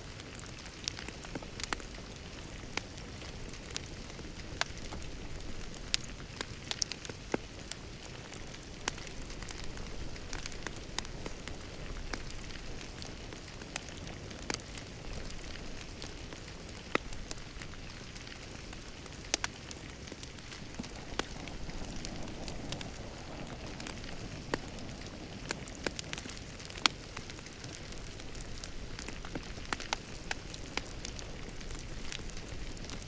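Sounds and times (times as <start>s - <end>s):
fire crackling: 0.0s - 33.0s.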